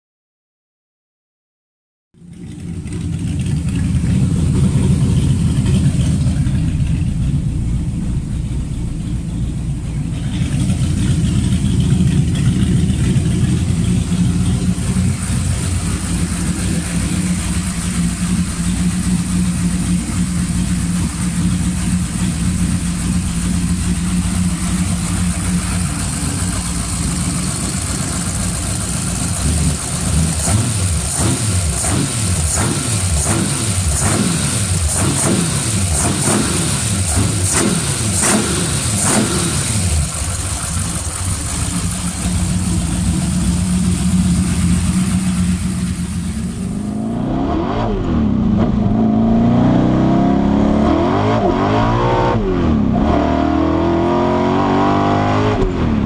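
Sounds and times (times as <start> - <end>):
car engine idling: 2.2 - 47.4
engine throttle blips: 2.2 - 56.0.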